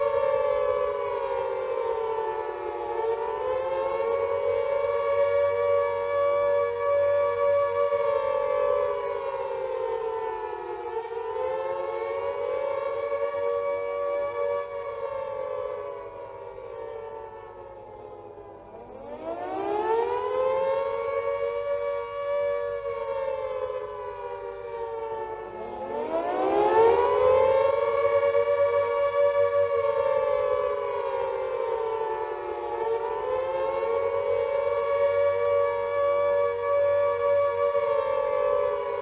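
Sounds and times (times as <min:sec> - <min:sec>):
air raid siren wailing: 0:00.0 - 0:39.0.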